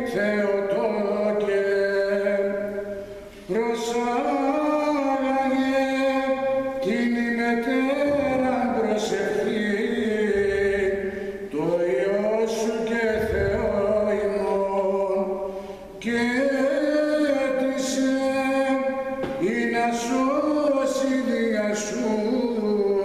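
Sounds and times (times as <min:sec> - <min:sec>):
man singing chant: 0:00.0 - 0:23.0.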